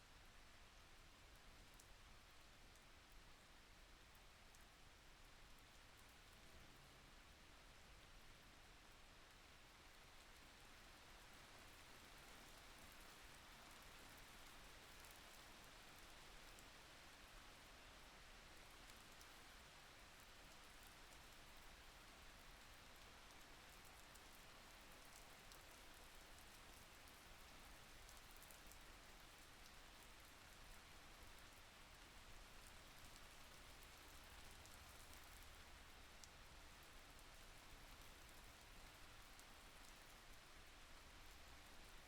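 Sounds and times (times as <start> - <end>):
faint rain falling: 0.0 - 42.0.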